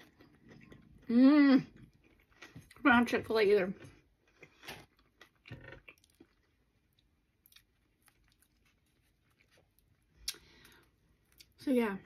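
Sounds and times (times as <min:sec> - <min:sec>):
person chewing food: 0:00.0 - 0:02.8, 0:03.8 - 0:11.6.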